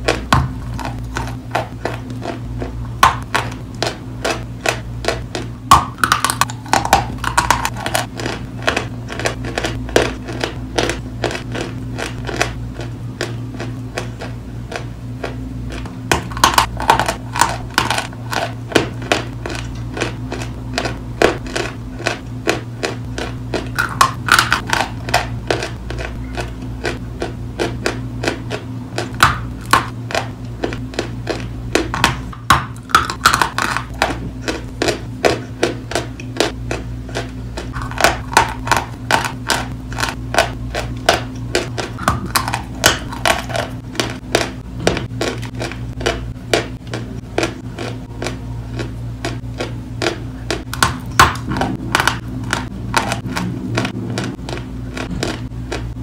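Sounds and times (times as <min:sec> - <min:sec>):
chewing and crunching chalk: 0:00.0 - 0:56.0
low hum: 0:00.0 - 0:56.0.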